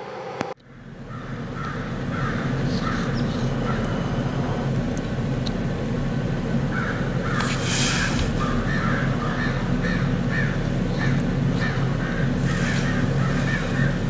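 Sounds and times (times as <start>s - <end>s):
low hum: 0.0s - 14.0s
bird calling: 0.7s - 4.7s, 6.5s - 14.0s.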